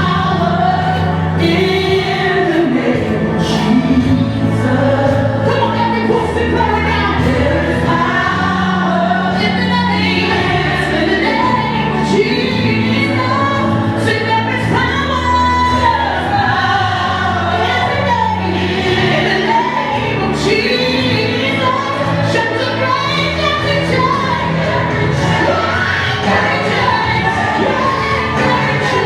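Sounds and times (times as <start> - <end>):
bass notes: 0.0 - 29.0
gospel choir singing with band: 0.0 - 29.0.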